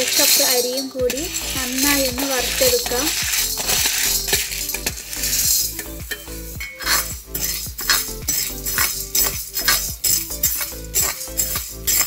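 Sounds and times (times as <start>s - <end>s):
metal spatula scraping a pan: 0.0s - 12.0s.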